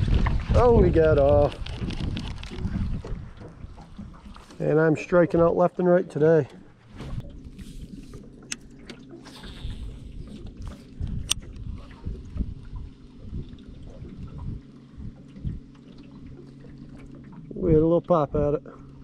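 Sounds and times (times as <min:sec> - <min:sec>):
steady low hum: 0:00.0 - 0:19.0
water lapping against boat hull: 0:00.0 - 0:19.0.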